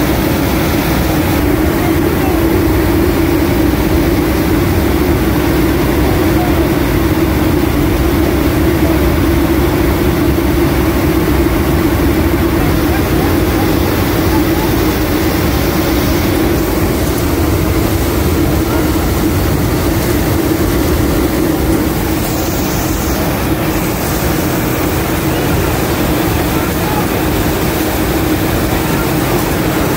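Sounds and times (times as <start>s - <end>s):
rushing air: 0.0s - 29.9s
turboprop engines droning: 0.0s - 29.9s.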